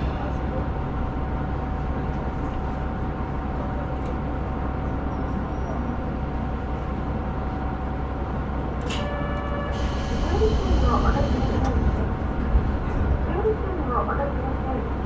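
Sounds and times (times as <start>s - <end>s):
railcar engine rumble: 0.0s - 15.0s.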